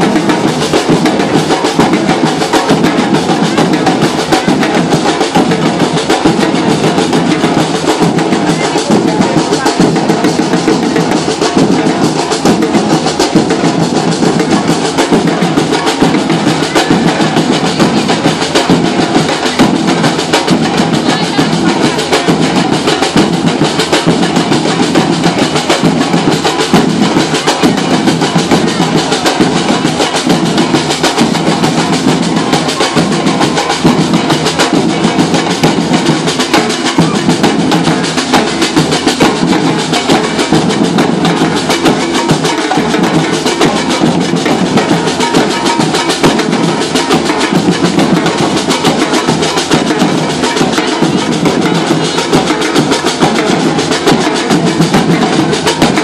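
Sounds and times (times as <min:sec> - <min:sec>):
samba percussion band: 0:00.0 - 0:56.0.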